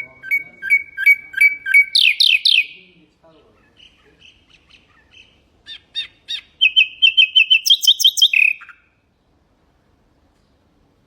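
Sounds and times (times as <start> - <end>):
nightingale singing: 0.0 - 9.2.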